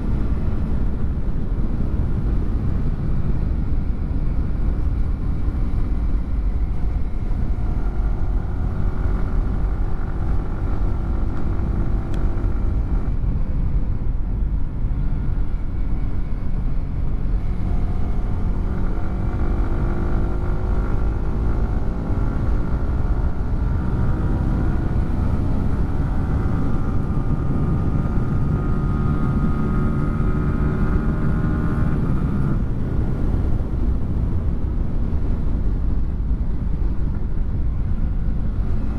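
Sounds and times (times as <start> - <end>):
low wind rumble: 0.0 - 38.9
motorcycle engine running: 0.0 - 38.9.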